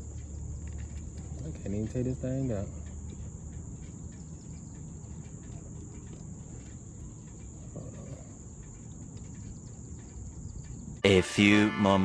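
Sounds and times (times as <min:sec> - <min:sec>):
faint clicks: 0:00.0 - 0:11.0
crickets chirring: 0:00.0 - 0:12.0.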